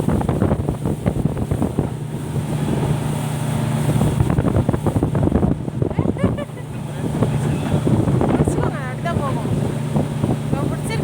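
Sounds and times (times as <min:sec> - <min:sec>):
motorboat engine humming: 0:00.0 - 0:11.0
water splashing: 0:00.0 - 0:11.0
wind buffeting microphone: 0:00.0 - 0:11.0.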